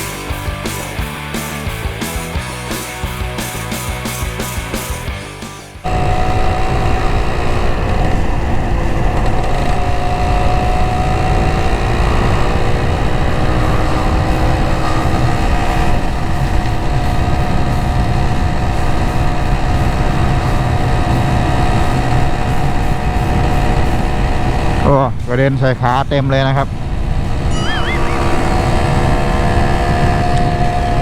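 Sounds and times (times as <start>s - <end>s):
motorcycle engine cruising: 0.0s - 25.8s, 26.6s - 31.0s
wind rumble on microphone: 5.9s - 31.0s.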